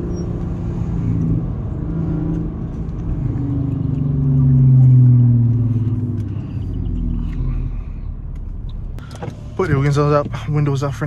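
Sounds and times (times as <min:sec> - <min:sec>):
car engine and exhaust drone: 0:00.0 - 0:11.0
road noise: 0:00.0 - 0:11.0.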